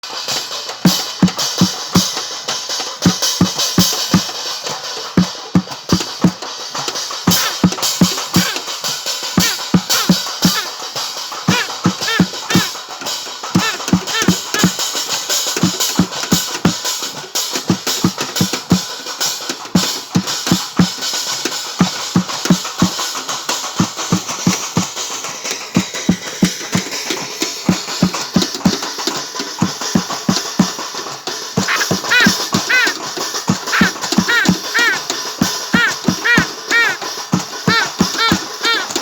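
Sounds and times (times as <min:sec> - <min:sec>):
loud drum-driven music: 0:00.0 - 0:39.0.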